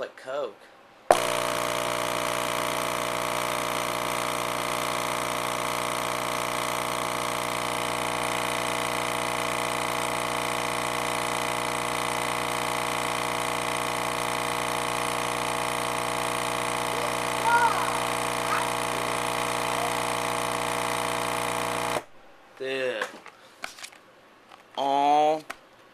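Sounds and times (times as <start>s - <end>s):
subwoofer buzzing loudly: 1.1s - 22.1s.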